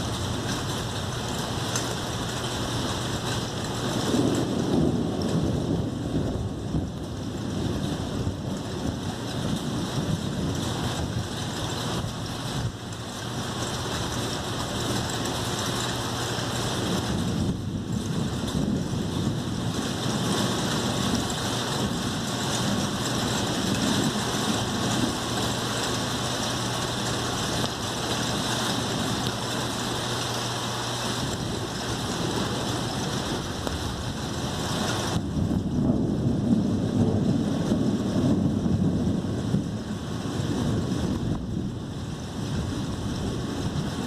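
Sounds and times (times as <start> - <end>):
deep thunder rumble: 0.0 - 44.0
rain hissing: 0.0 - 44.0.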